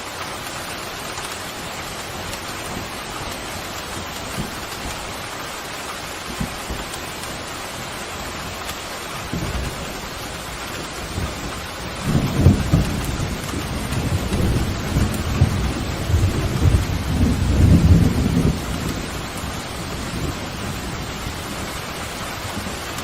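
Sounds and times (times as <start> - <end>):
heavy rain: 0.0 - 23.0
thunder rumbling: 1.4 - 23.0.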